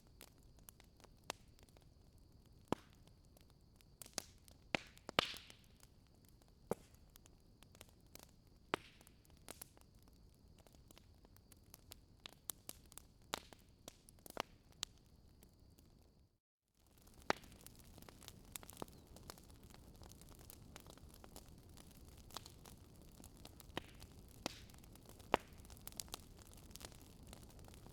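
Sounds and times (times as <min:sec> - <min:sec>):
wood fire crackling: 0:00.0 - 0:16.0, 0:16.8 - 0:27.9.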